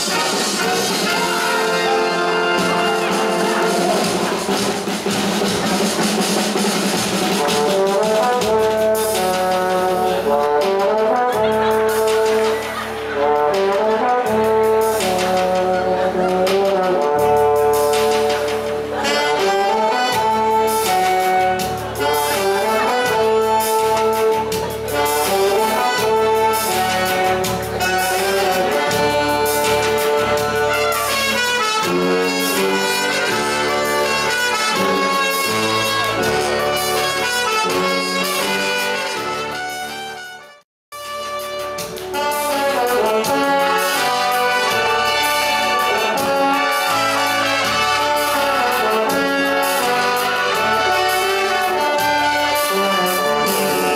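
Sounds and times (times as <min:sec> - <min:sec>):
brass band playing: 0:00.0 - 0:53.9
trumpets playing melody: 0:00.0 - 0:53.9.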